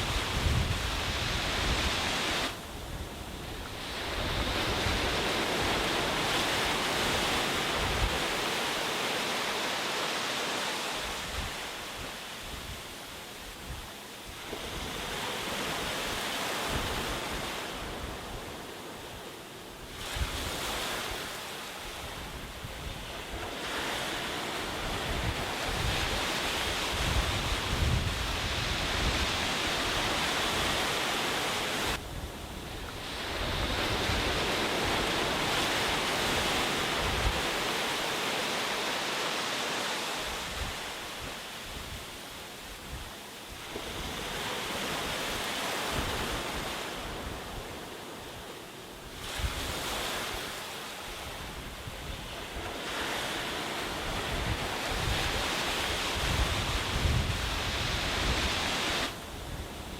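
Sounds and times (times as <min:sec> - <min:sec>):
wind buffeting the microphone: 0:00.0 - 0:08.7, 0:11.0 - 0:38.2, 0:40.1 - 0:48.4, 0:49.0 - 0:59.9
sea waves washing onto a beach: 0:00.0 - 0:59.9.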